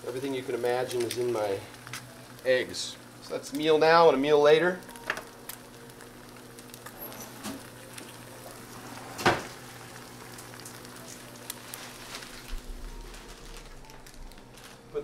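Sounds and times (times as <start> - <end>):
eggs sizzling in pan: 0.0 - 15.0.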